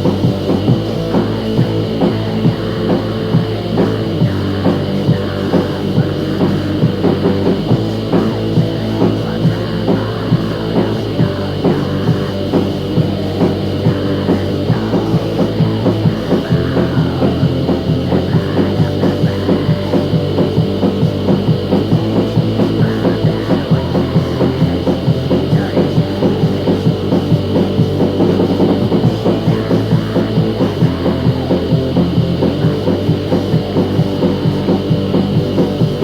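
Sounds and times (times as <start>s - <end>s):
bass line: 0.0s - 36.0s
fast drum beat: 0.0s - 36.0s
rock music: 0.0s - 36.0s.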